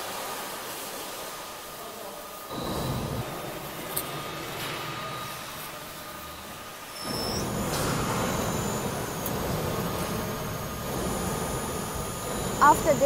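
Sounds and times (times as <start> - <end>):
steady mechanical running noise: 1.7 - 13.0.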